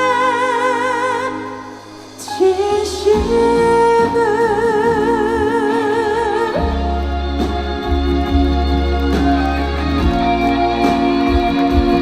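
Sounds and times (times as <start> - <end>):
backing music: 0.0 - 12.0
woman singing with vibrato: 0.0 - 12.0.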